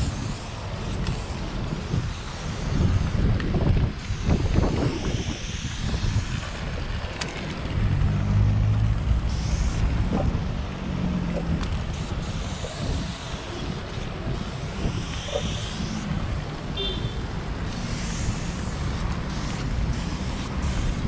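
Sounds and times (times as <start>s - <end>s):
vehicle engine hum: 0.0s - 21.0s
wind rumbling on microphone: 0.0s - 21.0s.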